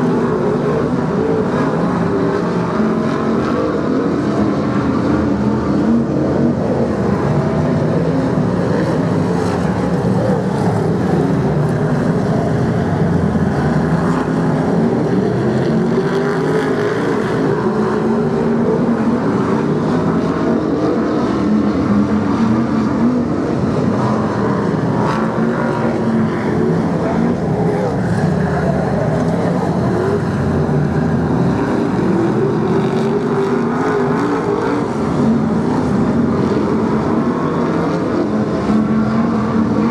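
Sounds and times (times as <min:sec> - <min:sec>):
stock car engines racing: 0:00.0 - 0:39.9.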